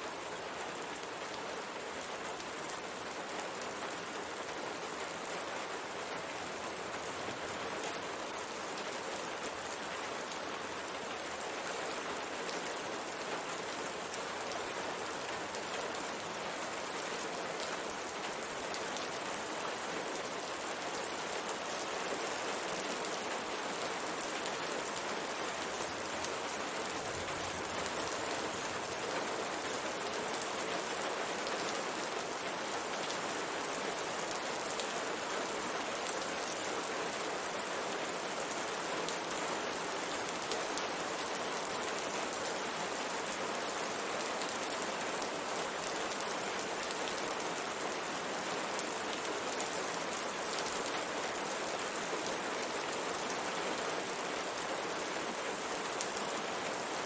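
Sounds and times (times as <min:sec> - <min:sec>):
rain pattering on a window: 0:00.0 - 0:57.0.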